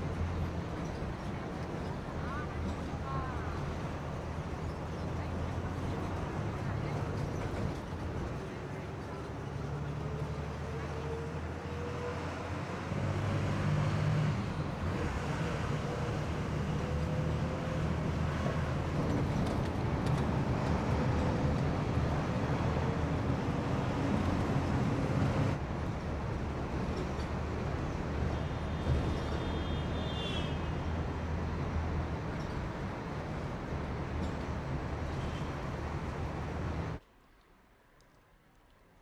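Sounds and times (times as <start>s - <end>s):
bus engine and road noise: 0.0s - 39.0s.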